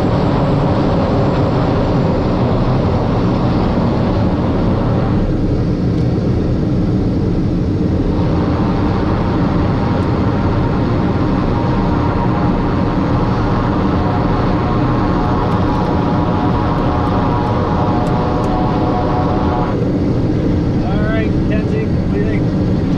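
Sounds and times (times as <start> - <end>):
high engine whine: 0.0 - 22.9
turboprop engine rumble: 0.0 - 22.9.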